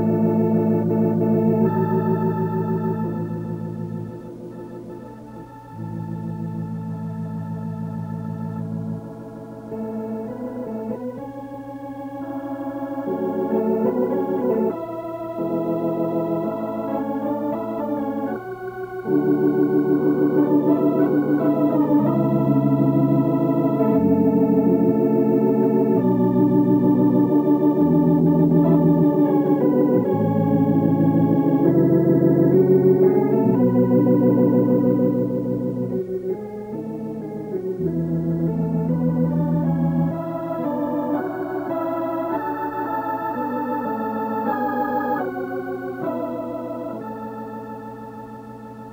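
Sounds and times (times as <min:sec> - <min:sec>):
organ playing slow chords: 0:00.0 - 0:48.9.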